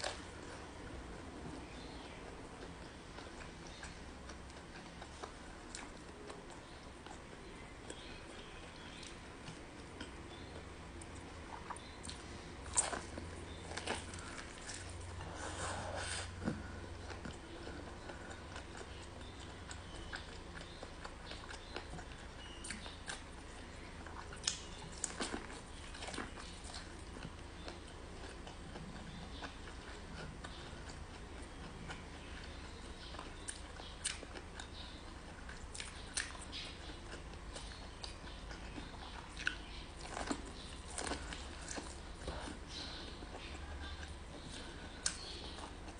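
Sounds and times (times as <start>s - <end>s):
faint low hum: 0.0s - 45.9s
soft chewing: 0.0s - 45.9s.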